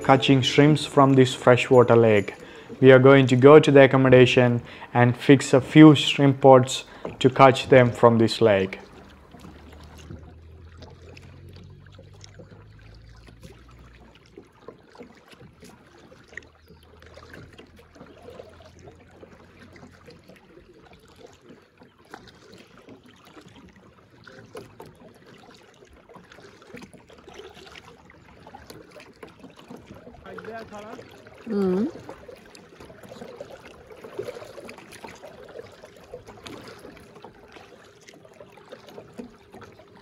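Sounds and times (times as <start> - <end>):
paddle blades dipping in water: 0.0 - 40.0
small splashes: 0.0 - 40.0
water dripping off paddle: 0.0 - 40.0.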